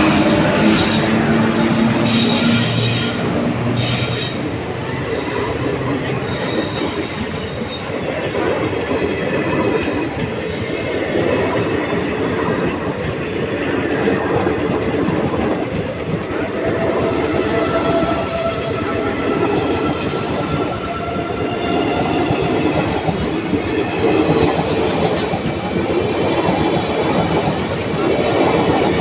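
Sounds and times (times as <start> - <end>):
electric locomotive humming: 0.0 - 29.0
train wheels clattering on rails: 0.0 - 29.0.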